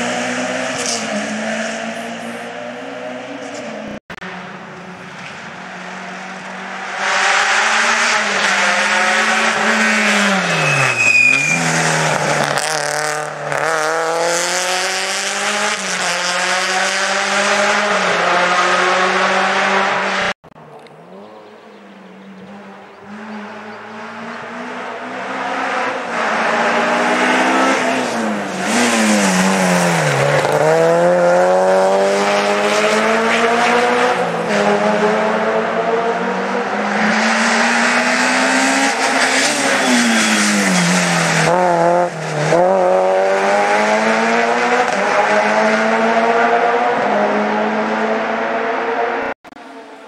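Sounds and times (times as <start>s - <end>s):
rally car engine revving: 0.0s - 49.8s.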